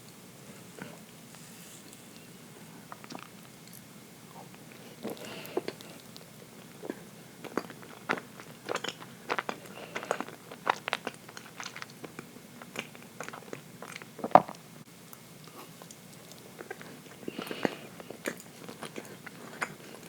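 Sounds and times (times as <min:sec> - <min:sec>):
person chewing cake: 0:00.7 - 0:14.6, 0:15.2 - 0:20.0.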